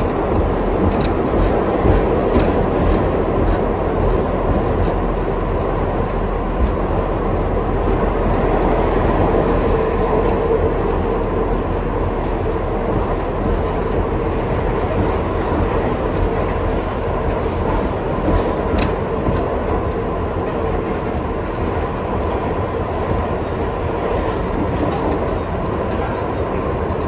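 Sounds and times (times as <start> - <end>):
faint track clicks: 0.0 - 27.0
subway wheels rumbling on rail: 0.0 - 27.0.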